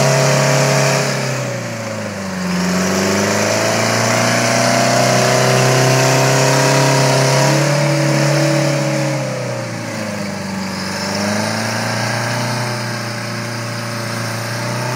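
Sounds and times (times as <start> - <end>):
heavy diesel engine running hard: 0.0 - 14.9.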